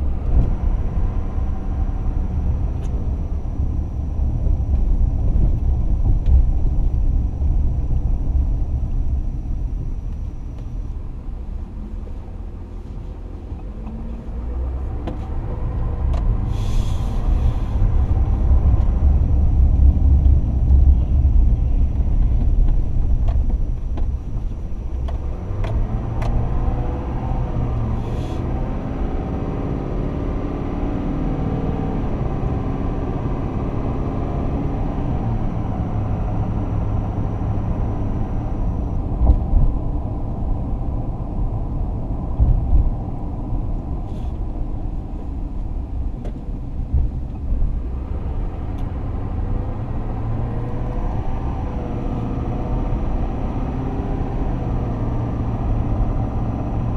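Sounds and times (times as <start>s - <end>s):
truck engine and road rumble: 0.0s - 56.9s.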